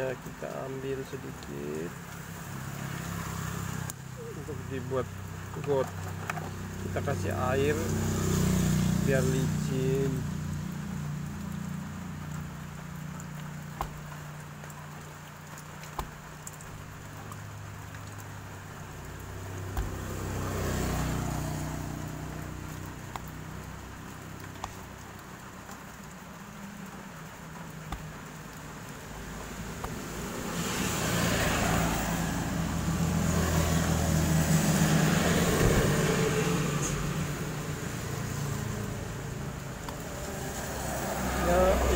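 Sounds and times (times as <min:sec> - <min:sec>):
vehicle engine noise: 0:00.0 - 0:41.9.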